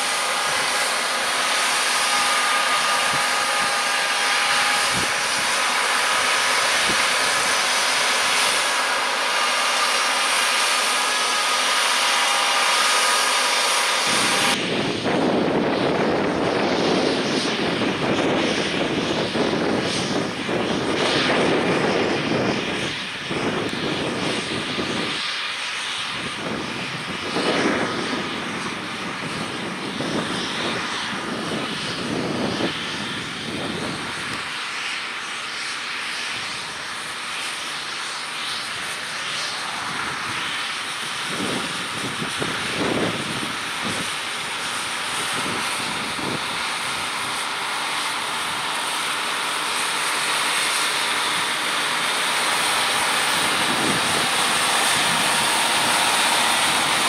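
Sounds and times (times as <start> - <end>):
high whine of harrow drill: 0.0 - 57.0
rush of turning soil: 0.0 - 57.0
tractor engine drone under load: 0.0 - 57.0.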